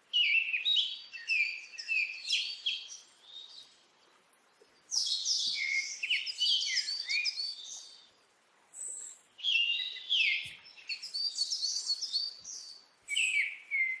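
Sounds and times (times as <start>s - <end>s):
birds singing: 0.1s - 8.2s, 8.8s - 14.0s.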